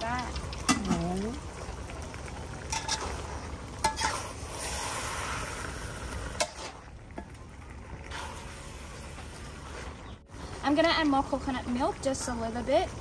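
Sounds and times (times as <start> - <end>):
curry simmering with soft hiss: 0.0 - 13.0.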